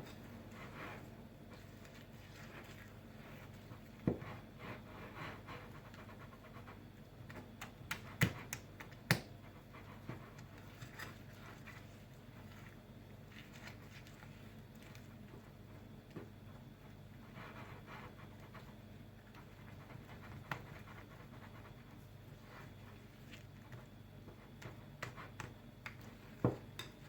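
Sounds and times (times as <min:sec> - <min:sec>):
whisk swishing batter: 0:00.0 - 0:08.9, 0:09.5 - 0:27.0.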